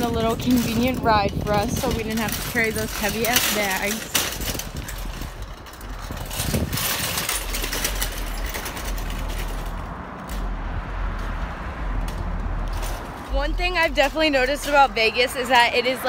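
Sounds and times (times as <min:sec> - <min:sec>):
sharp knocks and rattles: 0:00.0 - 0:15.6
low street rumble: 0:00.0 - 0:16.0.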